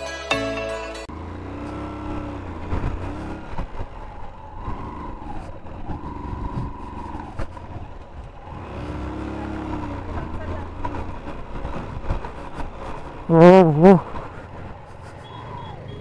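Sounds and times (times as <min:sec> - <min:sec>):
motorcycle engines revving: 0:01.1 - 0:16.0.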